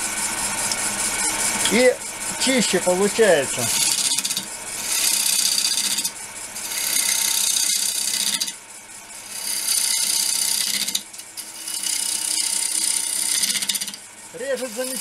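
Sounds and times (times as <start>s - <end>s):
lathe cutter hissing on wood: 0.0s - 15.0s
lathe motor humming: 0.0s - 15.0s.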